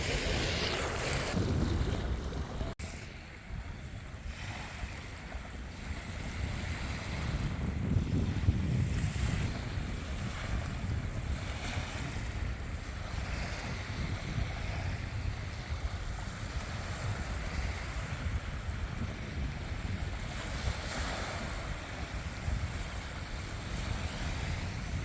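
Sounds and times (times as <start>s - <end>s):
sea waves washing onto shore: 0.0s - 25.0s
wind buffeting microphone: 0.0s - 25.0s.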